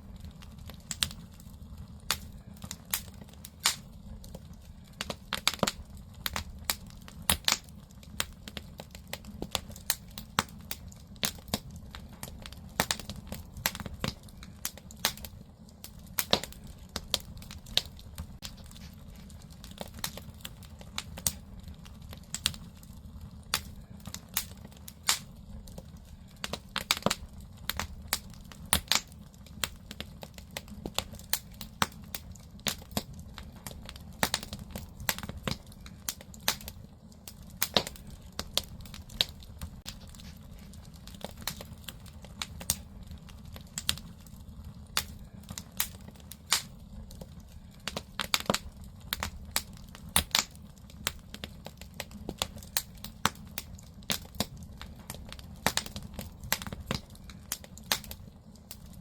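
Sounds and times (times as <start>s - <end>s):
firewood crackling and popping: 0.0s - 59.0s
low rumble of fire: 0.0s - 59.0s.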